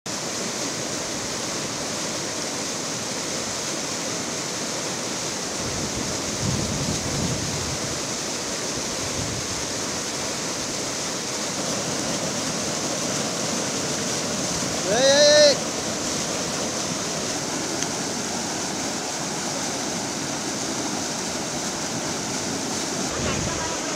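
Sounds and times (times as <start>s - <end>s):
floodwater rushing: 0.1s - 23.9s.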